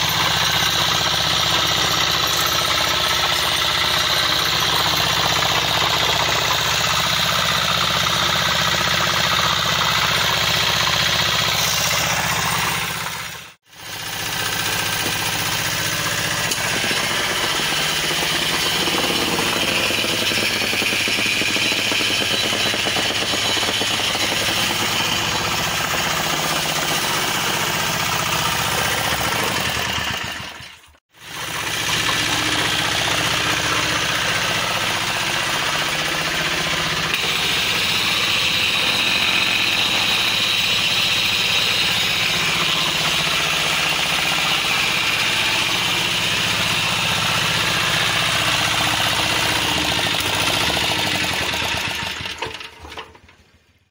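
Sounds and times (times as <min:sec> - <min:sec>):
diesel engine clattering: 0:00.0 - 0:53.5.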